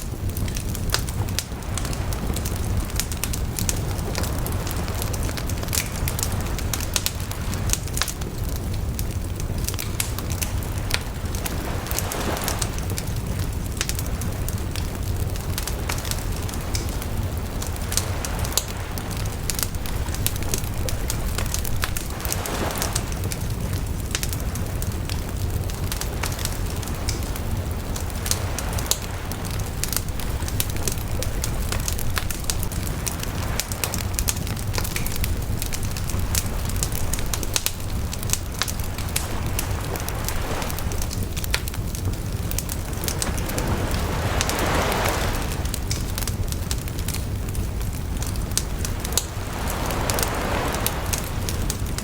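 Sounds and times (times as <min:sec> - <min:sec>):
bonfire crackling and popping: 0:00.0 - 0:52.0
low fire rumble: 0:00.0 - 0:52.0.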